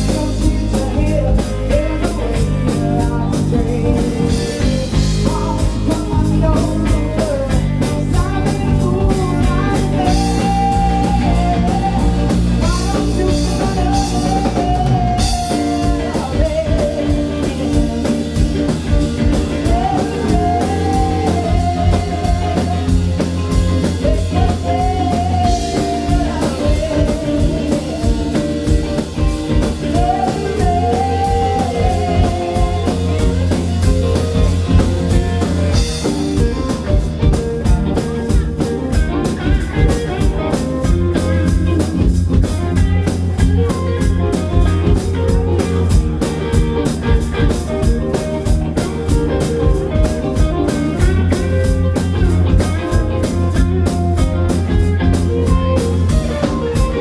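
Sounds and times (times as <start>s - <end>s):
blues-rock band playing: 0.0s - 57.0s
sliding guitar lead melody: 0.0s - 57.0s.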